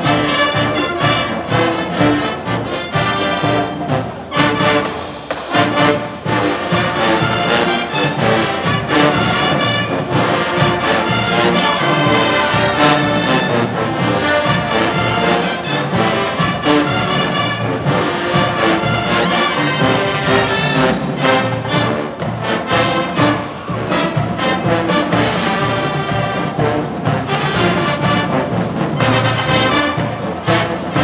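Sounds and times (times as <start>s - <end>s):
brass section playing tune: 0.0s - 31.0s
drumline hits: 0.0s - 31.0s.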